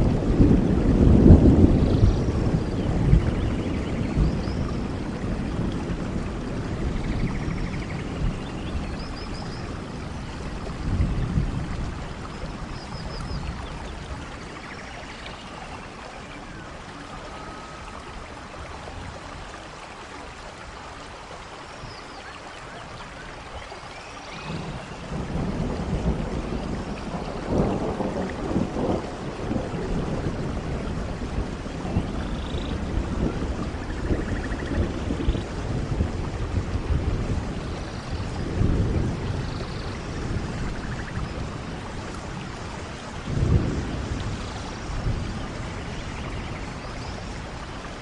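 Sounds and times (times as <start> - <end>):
rolling thunder: 0.0 - 19.5, 24.3 - 48.0
steady rain: 0.0 - 48.0.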